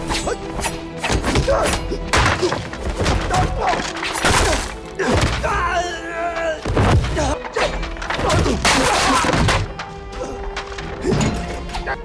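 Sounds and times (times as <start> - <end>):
film score music: 0.0 - 12.0.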